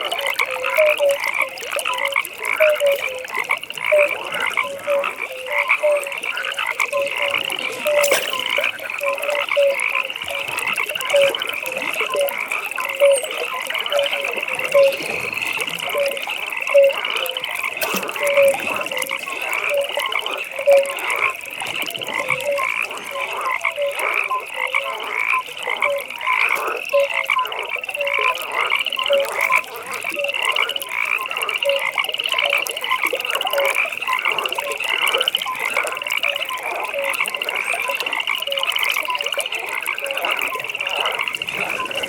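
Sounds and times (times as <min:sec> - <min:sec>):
frogs high pulsing trill: 0:00.0 - 0:42.0
frogs short croaks: 0:00.0 - 0:42.0.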